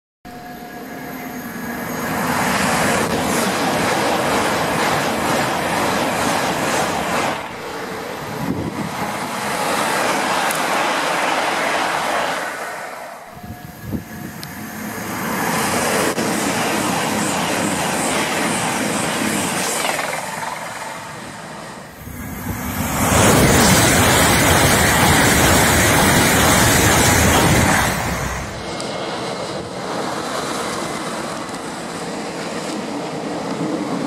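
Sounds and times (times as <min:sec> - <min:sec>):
high-speed trains passing: 0:00.3 - 0:34.0.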